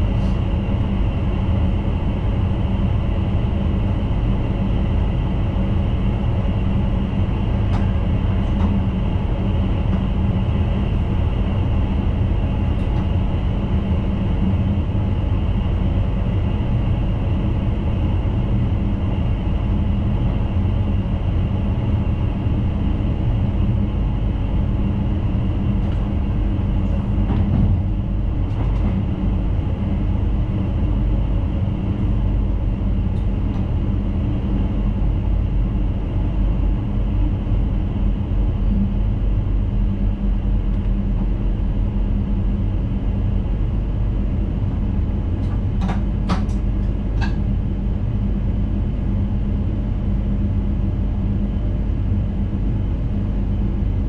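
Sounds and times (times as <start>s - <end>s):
train rolling noise: 0.0s - 49.5s
steady hum: 0.0s - 54.0s.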